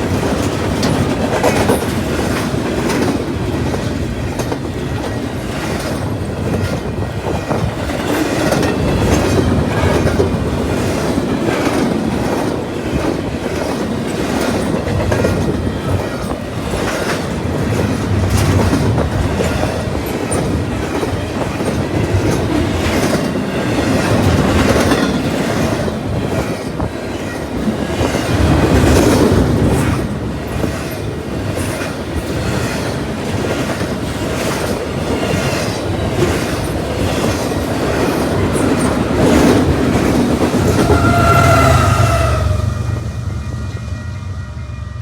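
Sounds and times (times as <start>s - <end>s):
train wheels clicking over rail joints: 0.0s - 41.8s.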